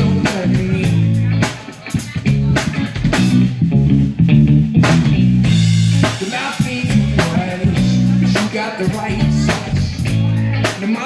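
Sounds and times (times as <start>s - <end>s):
bass guitar: 0.0s - 11.0s
drum kit beat: 0.0s - 11.0s
electric guitar: 0.0s - 11.0s.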